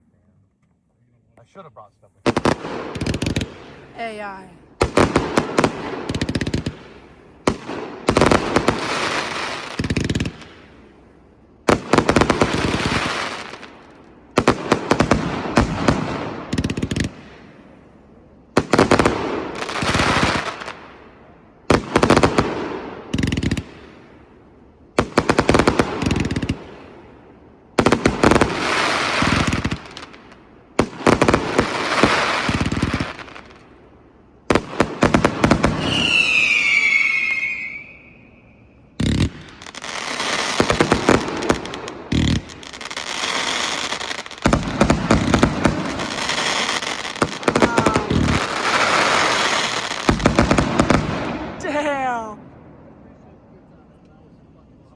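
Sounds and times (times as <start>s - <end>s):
firework bangs with echo: 2.2s - 10.9s, 11.6s - 17.9s, 18.5s - 24.3s, 24.9s - 33.8s, 34.4s - 38.4s, 39.0s - 52.4s.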